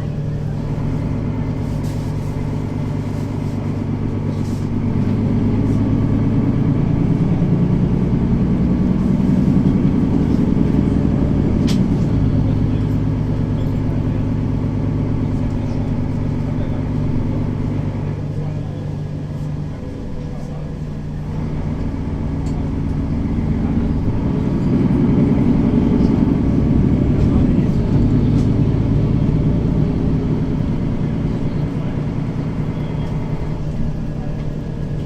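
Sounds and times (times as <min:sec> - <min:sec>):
bus engine running: 0:00.0 - 0:35.0.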